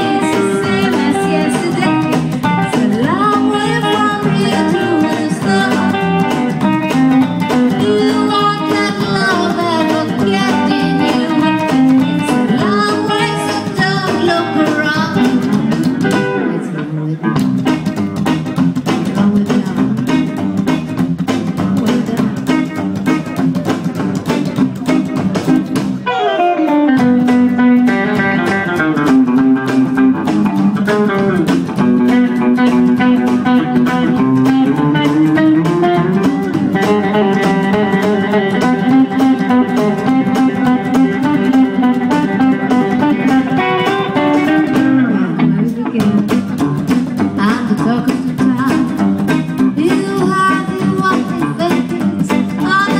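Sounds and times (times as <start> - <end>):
guitar lead with bending notes: 0.0 - 52.9
live rockabilly band playing: 0.0 - 52.9.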